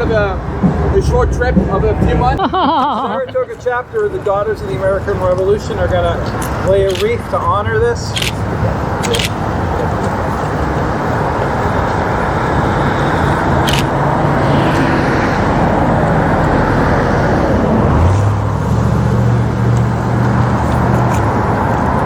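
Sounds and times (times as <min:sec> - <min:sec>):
cars going by: 0:00.0 - 0:22.0
vehicle engine humming: 0:00.0 - 0:22.0.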